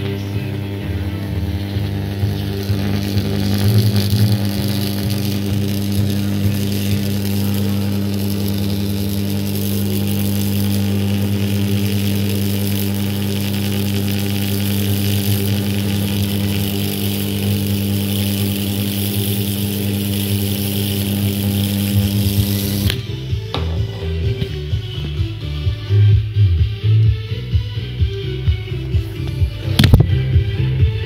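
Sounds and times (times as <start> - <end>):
transformer buzzing: 0.0 - 31.0.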